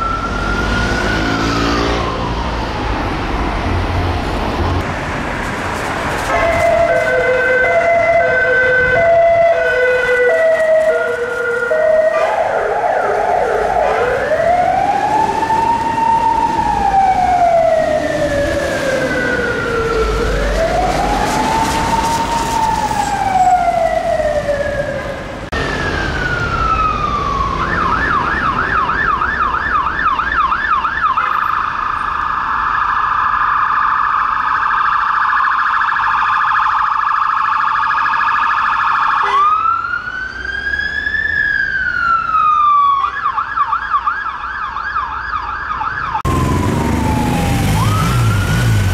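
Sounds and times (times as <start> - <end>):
police siren yelp and warble: 0.0 - 2.8, 6.3 - 48.9
police siren wailing: 0.0 - 3.8, 6.3 - 48.9.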